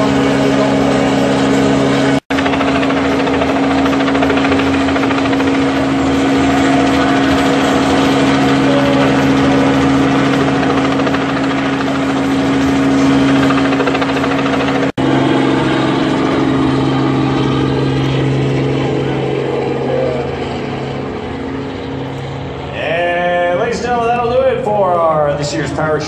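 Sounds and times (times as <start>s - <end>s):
helicopter engine hum: 0.0s - 26.0s
helicopter rotor throb: 0.0s - 26.0s.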